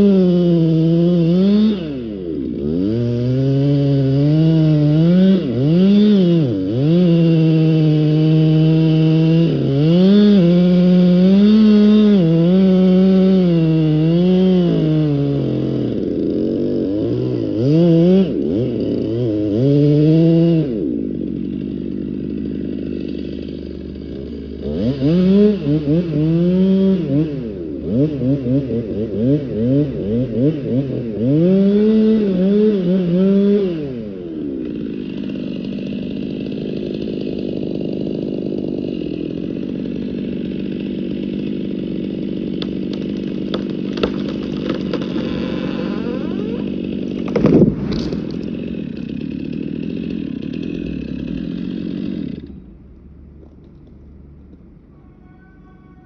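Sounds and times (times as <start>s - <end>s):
chainsaw engine revving and idling: 0.0s - 56.0s.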